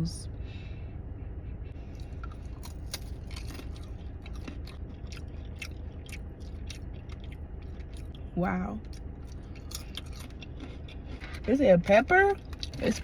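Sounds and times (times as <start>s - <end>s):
chewing crisp cracker: 1.8s - 13.0s.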